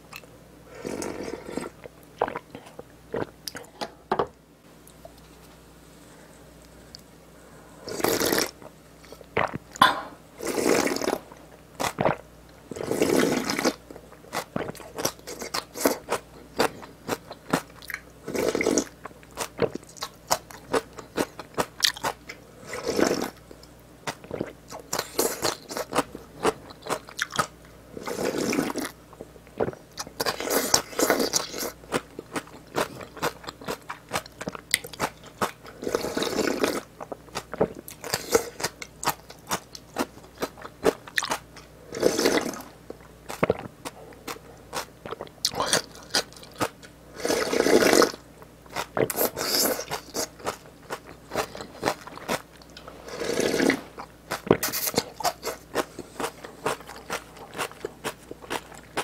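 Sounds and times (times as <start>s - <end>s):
close chewing and crunching: 11.0s - 59.0s.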